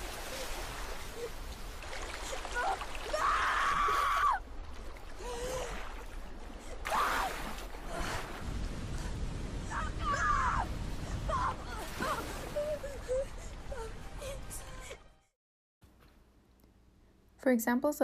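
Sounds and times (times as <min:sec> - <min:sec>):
rushing floodwater: 0:00.0 - 0:14.6.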